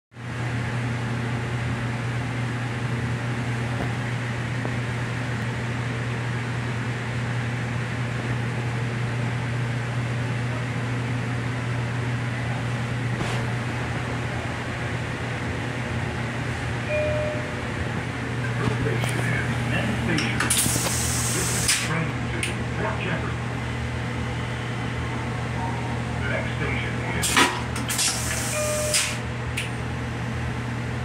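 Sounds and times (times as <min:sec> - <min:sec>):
ventilation fan whirring: 0:00.2 - 0:31.0
strong low hum: 0:01.5 - 0:27.8.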